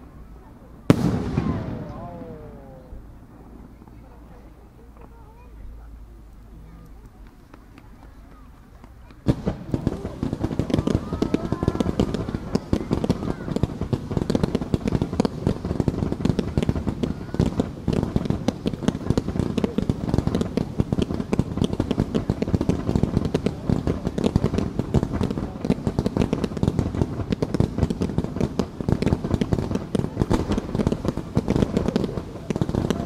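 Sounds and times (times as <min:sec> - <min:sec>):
fireworks popping and banging: 0:00.9 - 0:05.7, 0:06.8 - 0:33.0.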